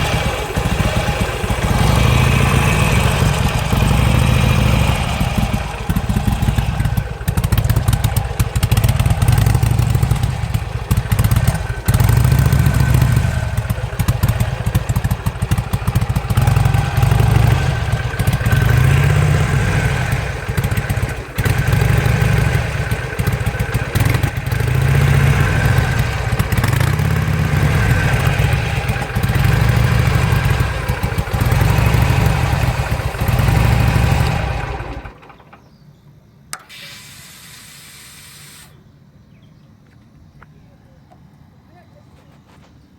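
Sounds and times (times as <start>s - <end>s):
motorcycle backfiring: 0.0s - 35.8s
motorcycle engine running: 0.0s - 35.8s.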